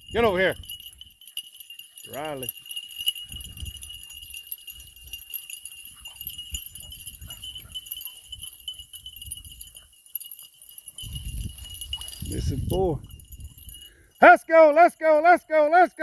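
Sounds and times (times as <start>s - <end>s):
dog collar tags jingling: 0.0s - 16.0s.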